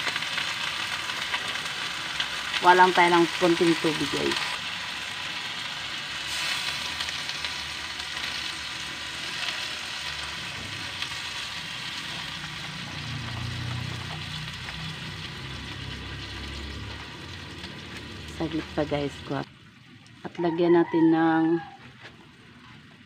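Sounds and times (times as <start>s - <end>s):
vegetables and fish sizzling in a wok: 0.0s - 23.0s.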